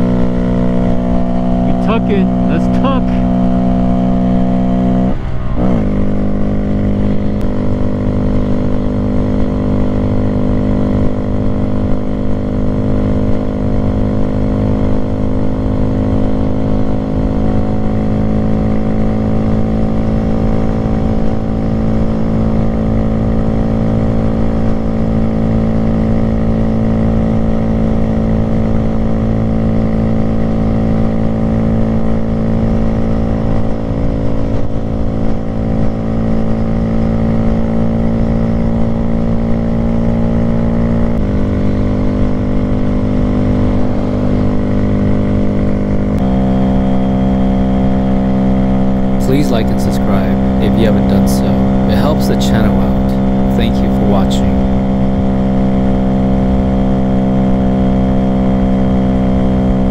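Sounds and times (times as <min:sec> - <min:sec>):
motorcycle engine revving high: 0:00.0 - 0:59.9.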